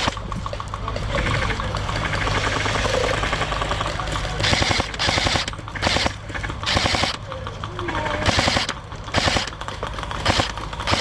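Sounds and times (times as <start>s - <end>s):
airsoft guns firing full-auto: 1.9s - 11.0s.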